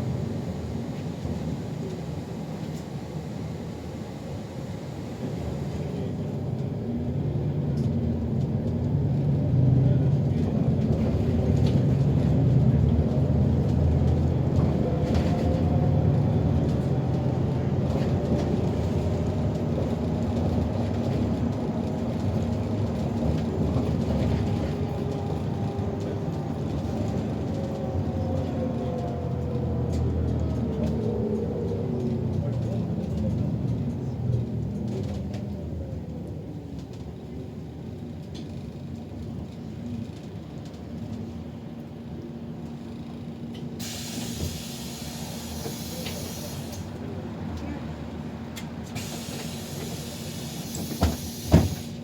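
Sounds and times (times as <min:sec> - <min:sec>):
bus drivetrain rumble: 0:00.0 - 0:52.0
road noise: 0:00.0 - 0:52.0.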